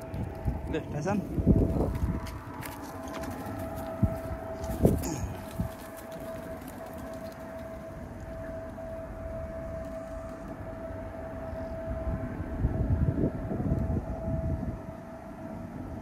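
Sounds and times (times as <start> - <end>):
faint high hum: 0.0 - 16.0
wind rumbling on microphone: 0.0 - 16.0.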